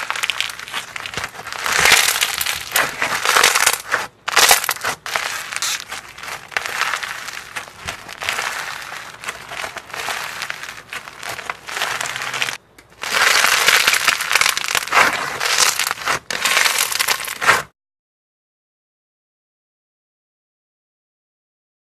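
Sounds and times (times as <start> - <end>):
crunchy slime crackling: 0.0 - 17.7.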